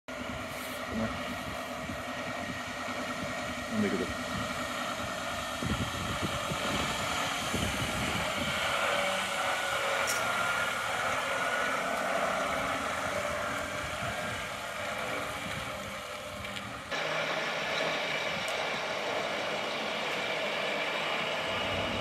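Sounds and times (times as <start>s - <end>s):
truck diesel engine driving past: 0.1s - 22.0s.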